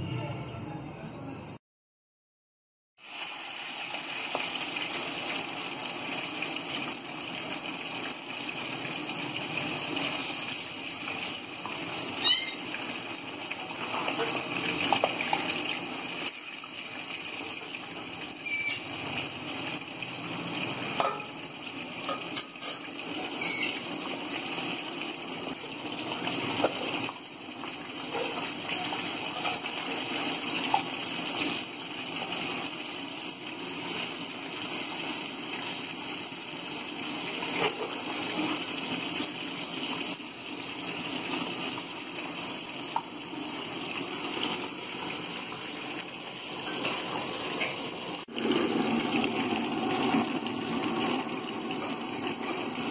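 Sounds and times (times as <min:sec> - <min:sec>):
fish deep-frying in oil: 0:03.0 - 0:52.9.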